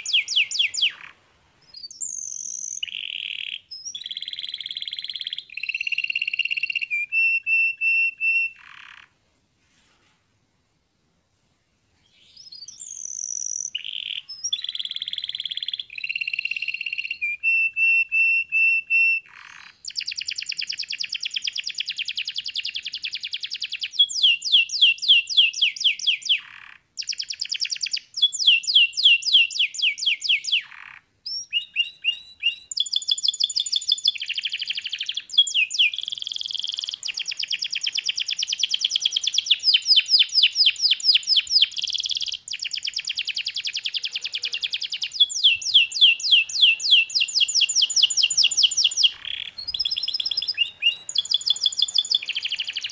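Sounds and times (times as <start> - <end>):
canary singing: 0.0 - 9.2, 12.1 - 52.9.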